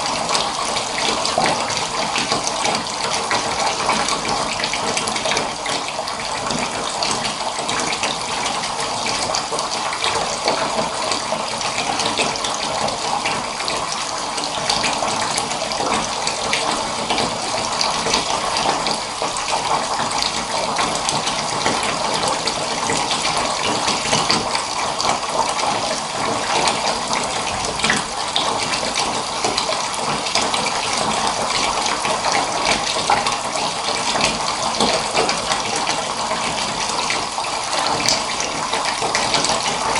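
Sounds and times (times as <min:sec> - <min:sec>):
water pouring into bath: 0:00.0 - 0:39.9.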